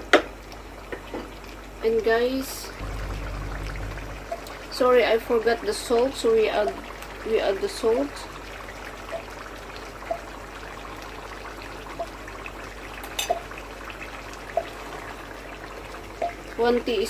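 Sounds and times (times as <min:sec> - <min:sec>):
curry sizzling in a pot: 0:00.0 - 0:17.0.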